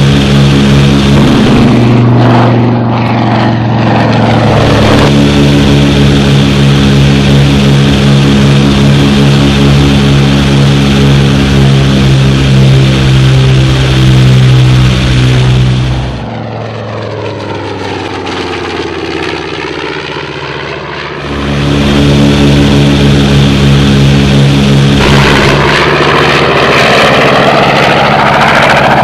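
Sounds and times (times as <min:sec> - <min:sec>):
bomber passing overhead: 0:00.0 - 0:17.0, 0:21.2 - 0:29.0
aircraft engines droning in cockpit: 0:00.0 - 0:29.0.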